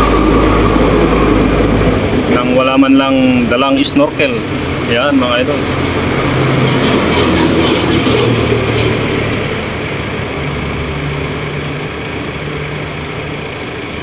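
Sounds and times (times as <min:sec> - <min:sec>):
pressure washer machine hum: 0:00.0 - 0:02.9, 0:04.2 - 0:14.0.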